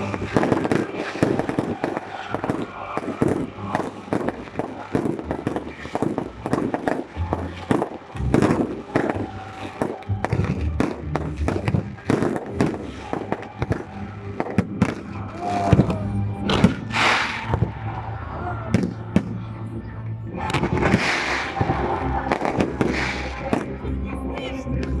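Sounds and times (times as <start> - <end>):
fireworks bangs and crackles: 0.0 - 19.5, 20.4 - 25.0.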